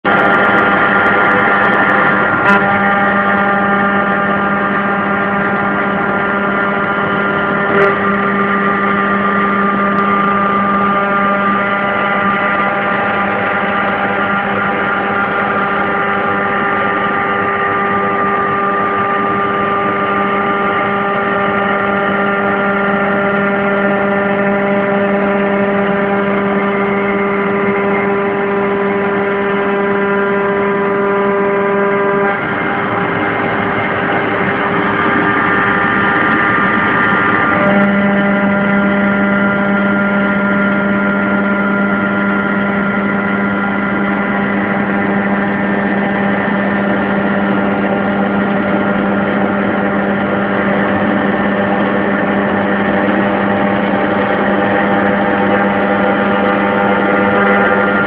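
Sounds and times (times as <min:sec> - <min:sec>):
spindle whine: 0:00.0 - 0:58.0
cutter cutting metal: 0:00.1 - 0:58.0.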